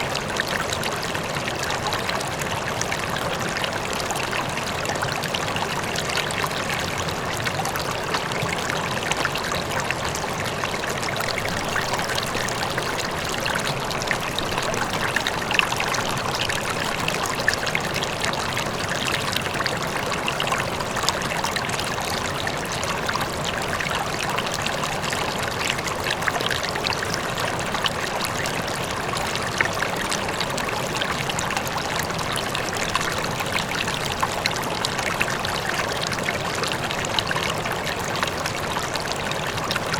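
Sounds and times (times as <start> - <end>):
distant waterfall: 0.0 - 39.9
river water flowing over rocks: 0.0 - 39.9.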